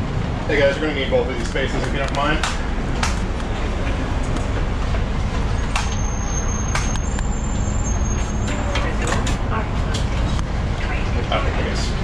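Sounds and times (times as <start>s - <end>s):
rail car rumble: 0.0s - 12.0s.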